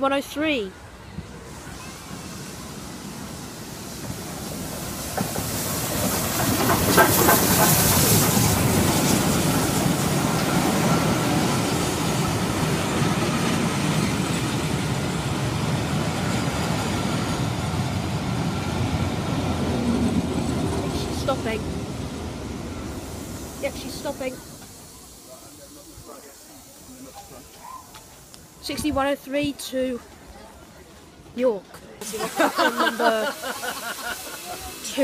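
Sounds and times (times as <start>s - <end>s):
steam locomotive approaching: 0.1s - 35.0s
train wheels on rails: 0.3s - 35.0s
steam hiss: 1.3s - 29.7s, 32.0s - 35.0s.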